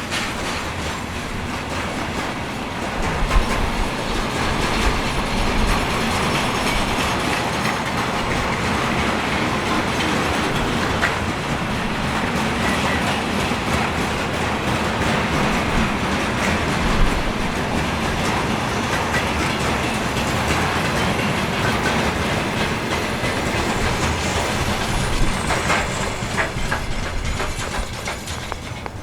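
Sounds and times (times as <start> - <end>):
train passing: 0.0 - 29.0
wheels clattering over rail joints: 0.0 - 29.0.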